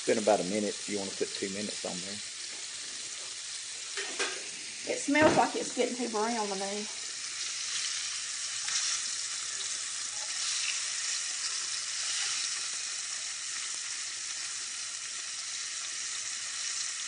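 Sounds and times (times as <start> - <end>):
fish sizzling in a pan: 0.0 - 17.0.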